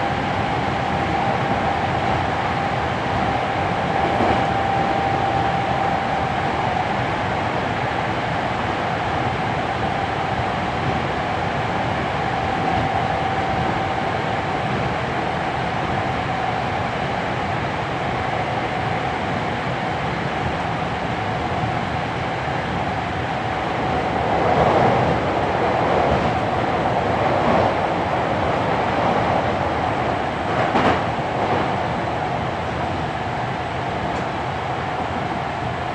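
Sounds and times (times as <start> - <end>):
train wheel and rail rumble: 0.0 - 35.9.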